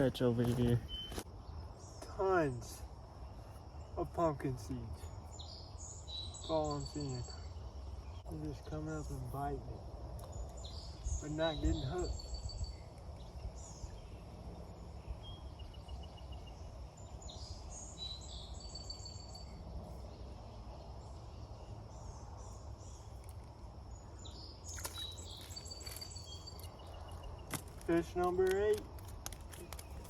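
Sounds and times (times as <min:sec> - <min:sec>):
birds singing high trills: 0:00.8 - 0:23.2, 0:23.8 - 0:28.2.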